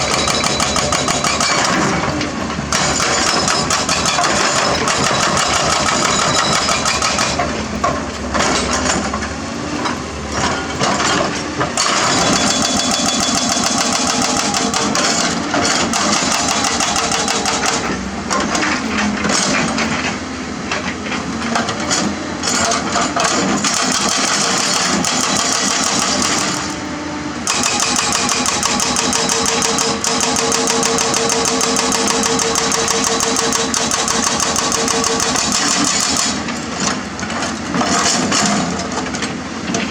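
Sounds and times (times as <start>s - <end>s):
excavator diesel engine working: 0.0s - 39.9s.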